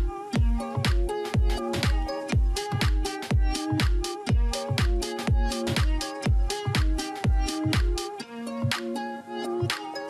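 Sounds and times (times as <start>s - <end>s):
electronic dance music: 0.0s - 9.0s.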